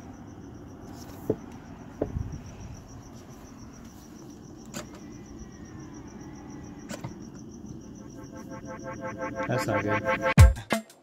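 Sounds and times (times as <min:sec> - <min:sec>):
cricket chirping: 0:00.0 - 0:10.4.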